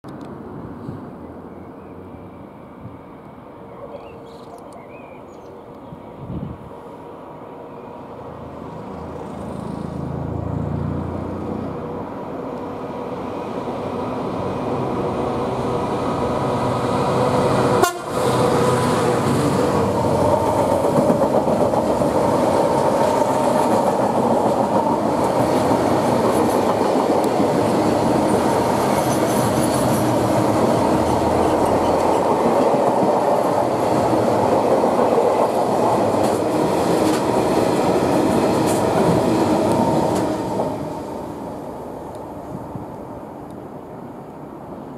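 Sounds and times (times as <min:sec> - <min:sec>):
diesel locomotive passing: 0:05.5 - 0:44.9.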